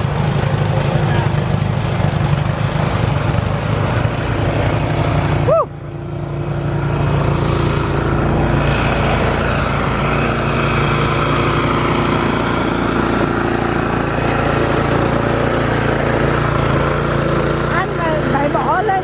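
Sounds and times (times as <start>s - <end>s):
snowblower engine running: 0.0s - 19.0s.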